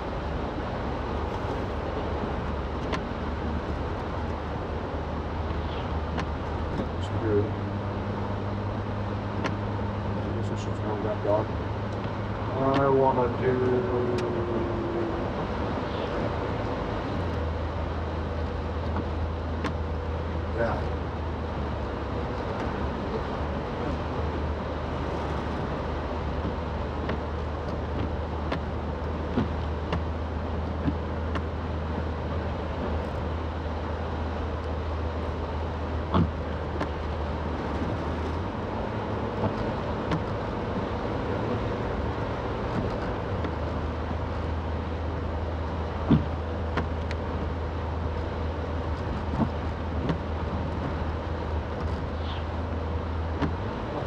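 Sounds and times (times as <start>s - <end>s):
car engine drone: 0.0s - 54.0s
tyre and road noise: 0.0s - 54.0s.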